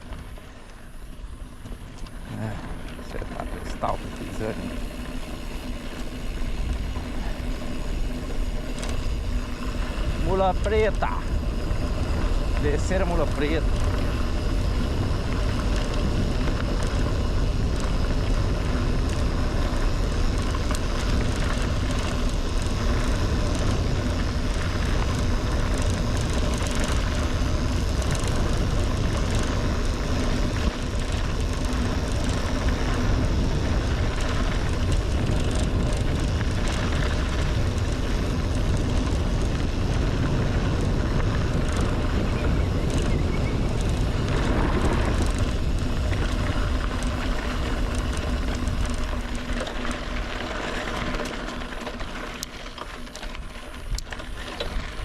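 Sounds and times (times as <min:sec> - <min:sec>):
tyres rumbling on dirt road: 0:00.0 - 0:55.0
wind buffeting microphone: 0:00.0 - 0:55.0.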